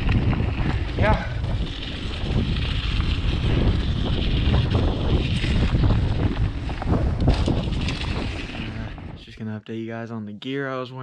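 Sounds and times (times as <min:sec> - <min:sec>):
bike rattling on rough ground: 0:00.0 - 0:09.2
wind buffeting microphone: 0:00.0 - 0:09.3.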